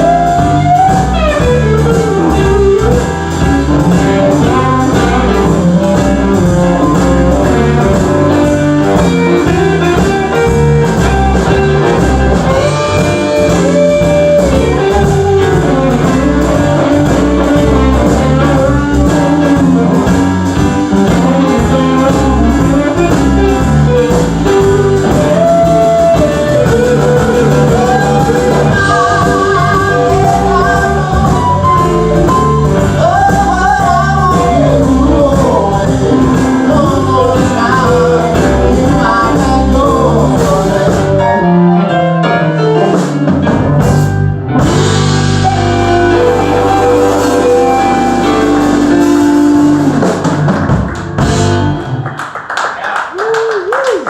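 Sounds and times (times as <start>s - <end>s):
person singing: 0.0s - 42.4s, 45.4s - 50.2s
blues-rock band playing: 0.0s - 52.6s.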